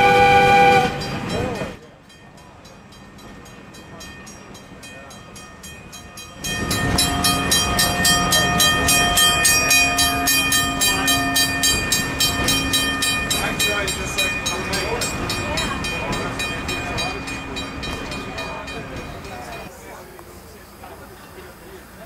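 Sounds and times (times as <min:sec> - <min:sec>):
railroad crossing bell ringing: 0:00.0 - 0:19.7
moving rail car running noise: 0:00.0 - 0:22.0.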